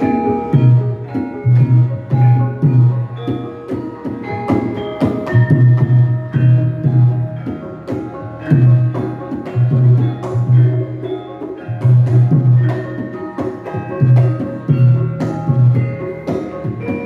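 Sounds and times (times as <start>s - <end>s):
ringing metallophone notes: 0.0s - 17.0s.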